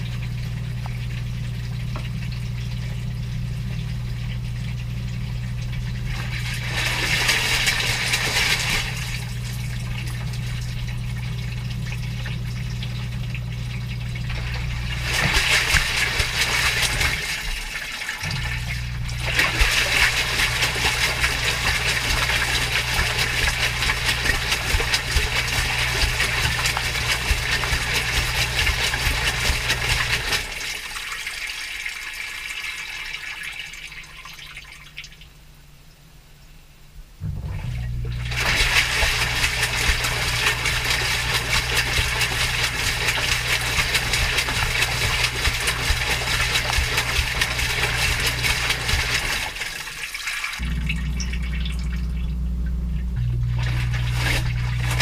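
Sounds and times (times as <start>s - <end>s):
washing machine motor hum: 0.0s - 35.1s, 36.6s - 55.0s
wet laundry sloshing: 0.0s - 35.1s, 37.2s - 55.0s.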